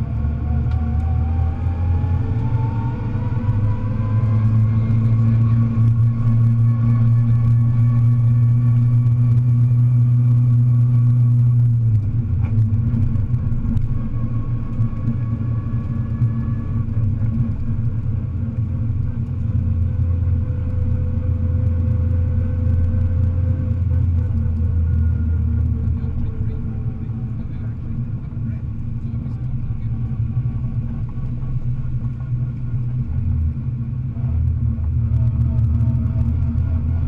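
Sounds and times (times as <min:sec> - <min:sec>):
rally car engine: 0:00.0 - 0:37.0.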